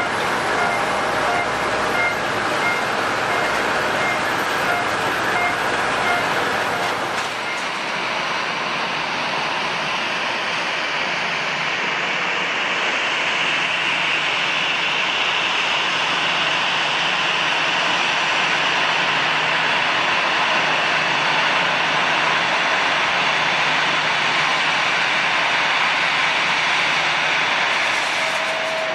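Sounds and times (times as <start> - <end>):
jet engines rushing: 0.0 - 28.9.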